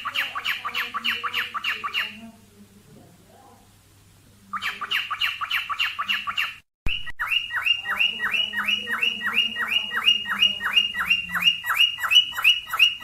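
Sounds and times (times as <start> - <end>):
cockatiel chirping: 0.0 - 2.2, 4.5 - 13.0.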